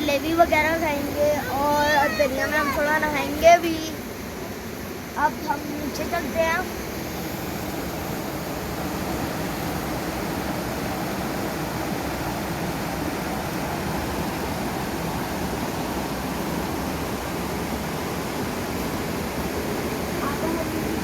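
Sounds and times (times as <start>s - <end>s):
fast-flowing river rushing: 0.0s - 3.9s, 5.0s - 21.0s.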